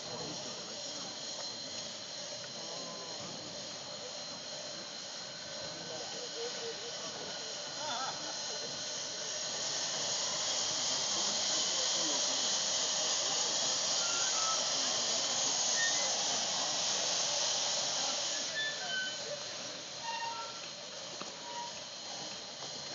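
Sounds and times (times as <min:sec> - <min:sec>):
steam hissing from locomotive: 0:00.0 - 0:22.9.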